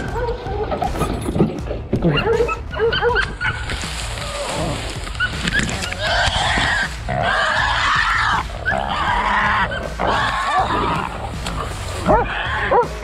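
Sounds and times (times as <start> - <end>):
hog squealing: 2.1 - 13.0.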